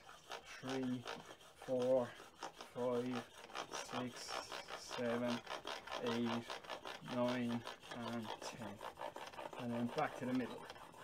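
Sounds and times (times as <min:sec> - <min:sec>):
blade scraping on water stone: 0:00.0 - 0:11.0.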